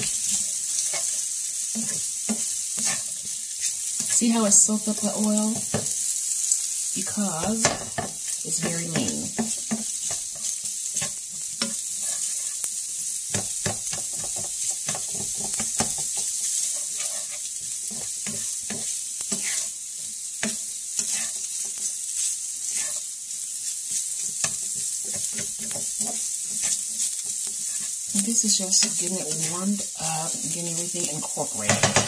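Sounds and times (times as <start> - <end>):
meat sizzling in a frying pan: 0.0 - 32.0
utensil scraping a pan: 0.0 - 32.0.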